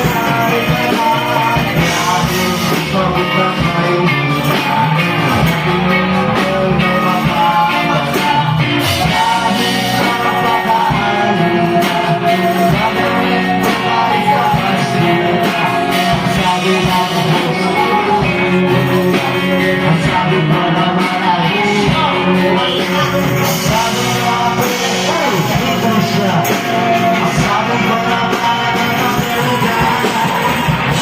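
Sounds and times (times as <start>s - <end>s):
live rock band playing: 0.0s - 31.0s
person singing: 0.0s - 31.0s.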